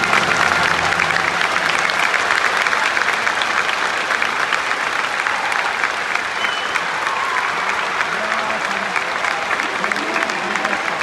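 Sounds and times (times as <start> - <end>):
stadium crowd applauding: 0.0 - 11.0.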